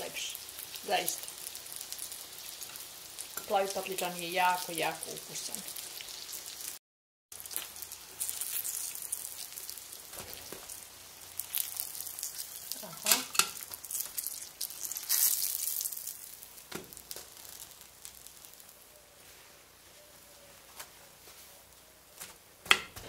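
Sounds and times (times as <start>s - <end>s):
eggplant sizzling in oil: 0.0s - 19.9s.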